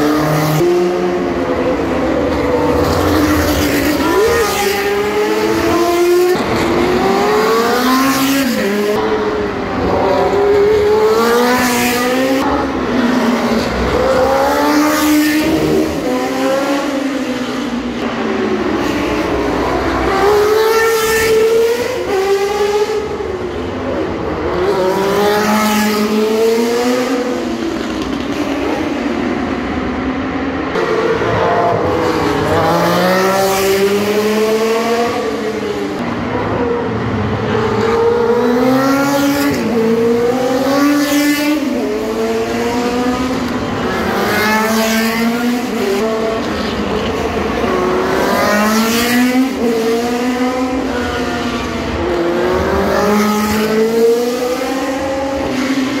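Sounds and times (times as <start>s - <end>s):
racing car engines accelerating: 0.0s - 56.0s.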